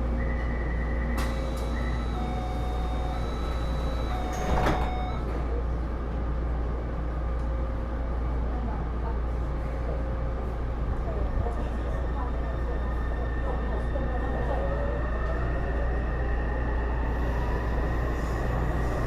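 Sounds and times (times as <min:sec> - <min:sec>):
train low hum: 0:00.0 - 0:19.0.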